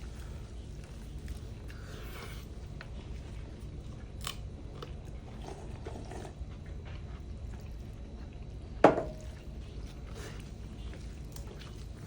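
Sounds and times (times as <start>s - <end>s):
low steady hum: 0.0s - 12.0s
people chewing food: 0.0s - 12.0s.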